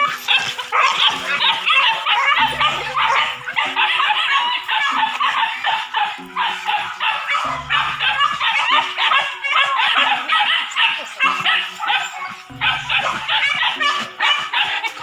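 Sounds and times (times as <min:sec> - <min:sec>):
dogs barking and yelping: 0:00.0 - 0:15.0.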